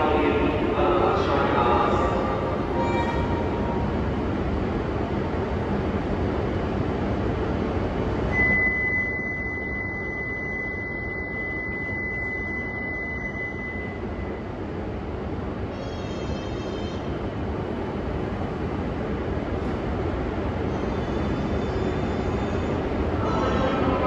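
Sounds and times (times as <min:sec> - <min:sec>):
train platform noise: 0:00.0 - 0:24.0.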